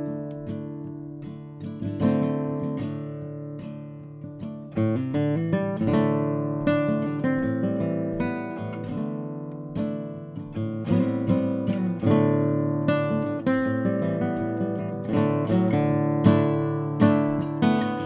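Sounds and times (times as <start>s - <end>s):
acoustic guitar music: 0.0s - 18.0s.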